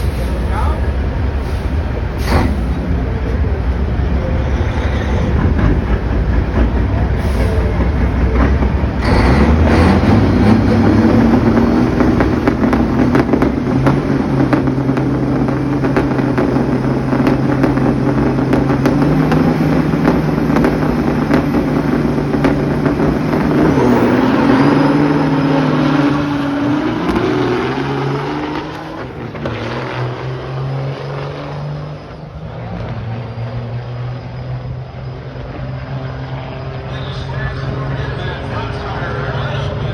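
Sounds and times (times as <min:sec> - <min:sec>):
truck diesel engines accelerating: 0:00.0 - 0:39.9.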